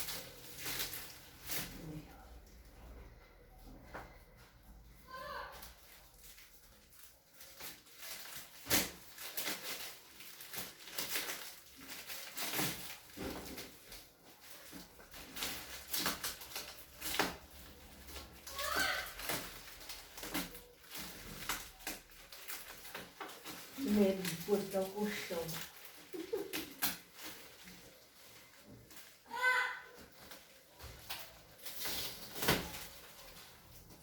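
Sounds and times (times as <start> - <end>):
plastic wrapping rustling and crackling: 0.0 - 34.0.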